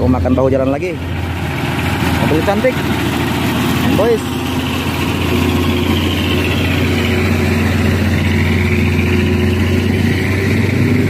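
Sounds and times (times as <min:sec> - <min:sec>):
diesel truck engines at low revs: 0:00.0 - 0:11.0.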